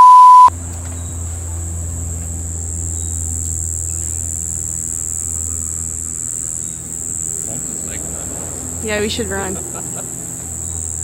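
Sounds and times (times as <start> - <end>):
high-pitched insect drone: 0.4 - 11.0
steady low rumble: 0.5 - 11.0.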